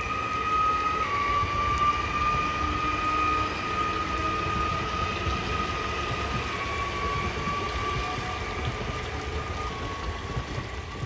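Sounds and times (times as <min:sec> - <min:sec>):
low rumbling train noise: 0:00.0 - 0:11.0
train motors whining: 0:00.0 - 0:11.0.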